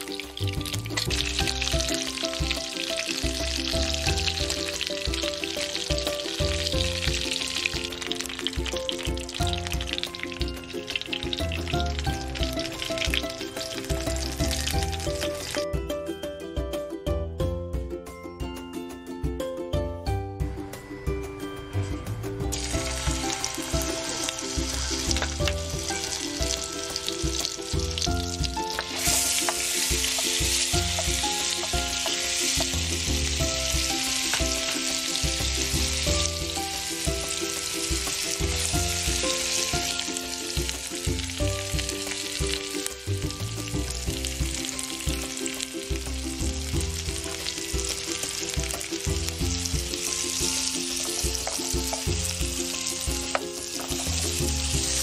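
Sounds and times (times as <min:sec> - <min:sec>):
onion sizzling in oil: 0:00.0 - 0:15.6, 0:22.5 - 0:55.0
background music: 0:00.0 - 0:55.0.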